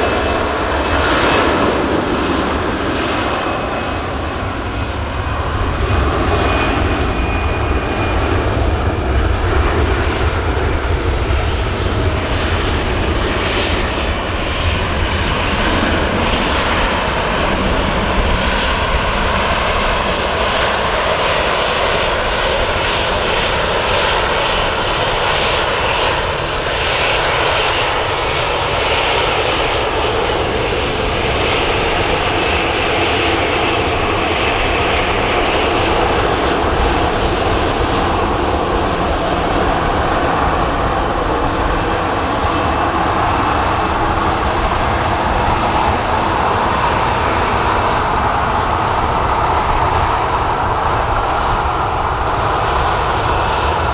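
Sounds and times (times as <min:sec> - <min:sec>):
jet engines roaring: 0:00.0 - 0:53.9.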